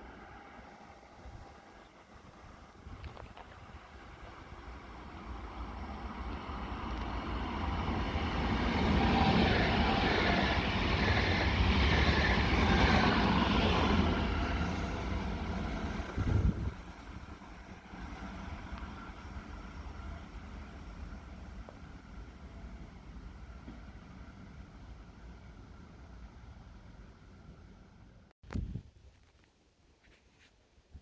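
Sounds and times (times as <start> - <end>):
train passing: 0.0 - 28.3.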